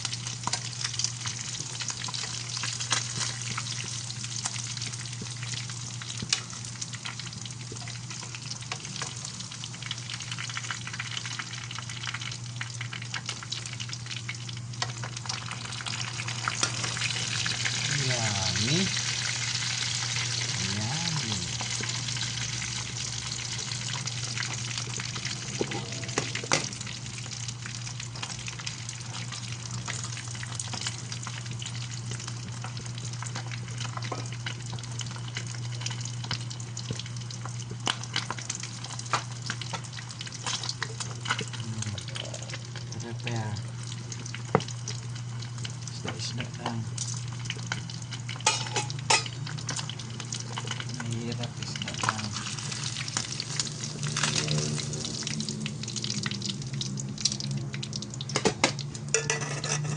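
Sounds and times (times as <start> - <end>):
fish frying in hot oil: 0.0 - 59.9.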